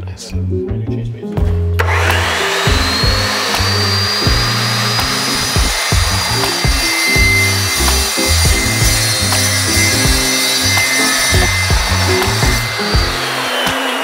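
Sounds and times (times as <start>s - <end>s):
chop saw cutting metal: 1.8s - 14.0s.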